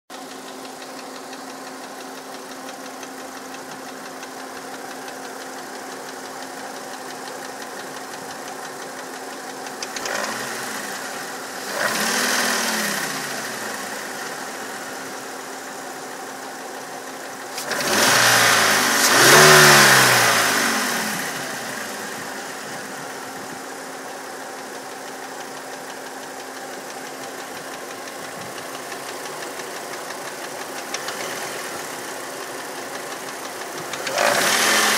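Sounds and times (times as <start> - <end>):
car engine idling and revving: 0.1 - 34.9.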